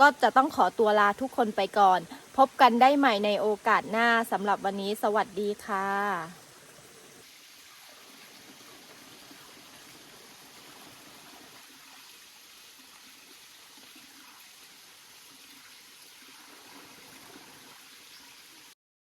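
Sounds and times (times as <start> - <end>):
flowing water rushing: 0.0 - 18.8.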